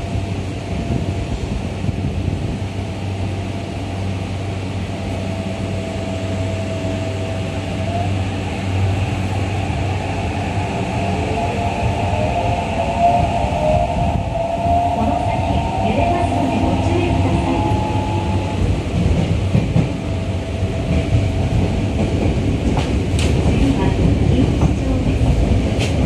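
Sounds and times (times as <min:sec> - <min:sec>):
subway car hum and rumble: 0:00.0 - 0:26.0.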